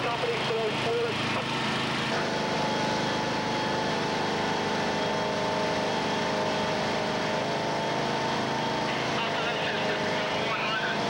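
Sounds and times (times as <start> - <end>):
engine droning: 0.0 - 11.0
thin steady whine: 0.0 - 11.0.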